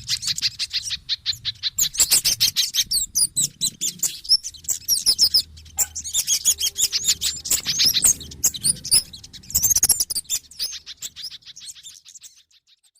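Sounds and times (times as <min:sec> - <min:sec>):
small birds chirping and whistling: 0:00.0 - 0:12.9.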